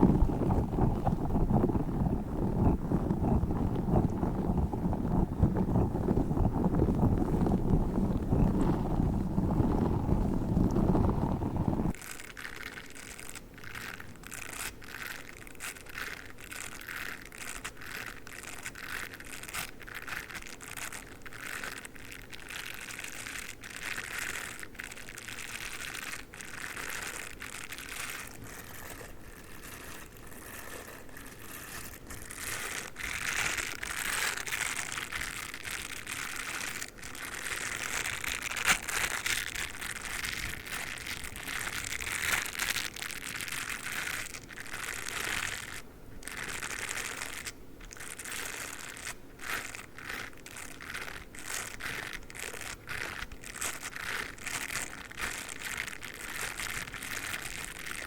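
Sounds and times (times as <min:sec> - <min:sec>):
toothbrush scratching rustle: 0:00.0 - 0:58.0.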